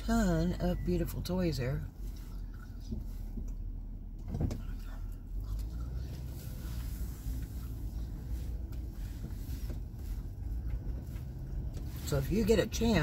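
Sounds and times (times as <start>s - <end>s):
car engine rumble: 0.0s - 13.0s
road noise: 0.0s - 13.0s.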